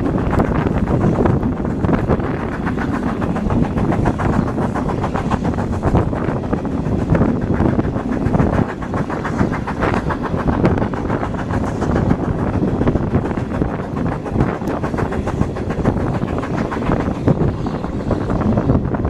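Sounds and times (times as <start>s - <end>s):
train rumbling: 0.0s - 19.0s
wheels clicking on rails: 0.0s - 19.0s
wind on microphone: 0.0s - 19.0s.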